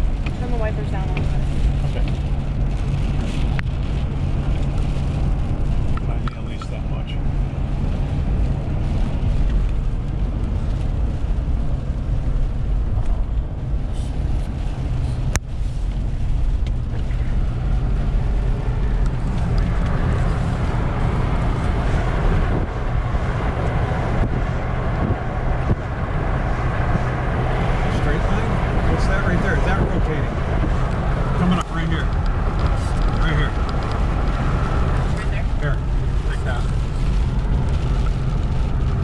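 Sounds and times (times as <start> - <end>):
car engine and road rumble: 0.0 - 39.0
wind and rain on vehicle: 0.0 - 39.0.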